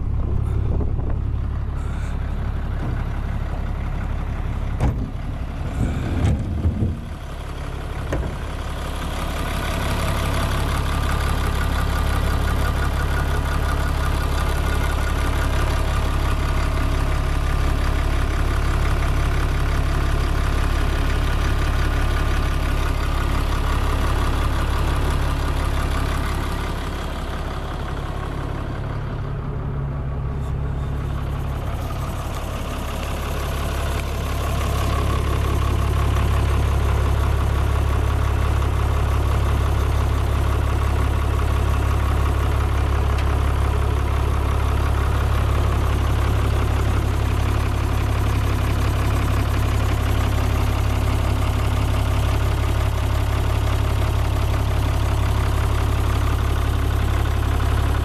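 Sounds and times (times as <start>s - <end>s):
wheel loader diesel engine idling: 0.0s - 58.0s.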